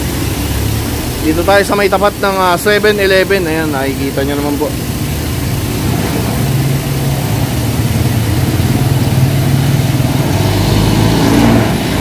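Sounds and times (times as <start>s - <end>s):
vehicle engines running: 0.0s - 12.0s
vehicles passing close: 0.0s - 12.0s.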